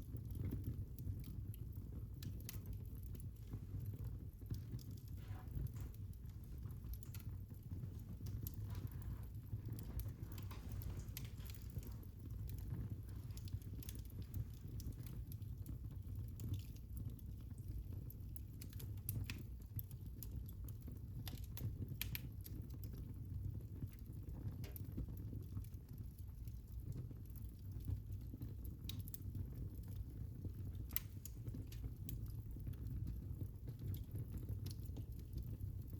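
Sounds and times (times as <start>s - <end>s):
fire crackling and popping: 0.0s - 35.9s
low fire rumble: 0.0s - 35.9s.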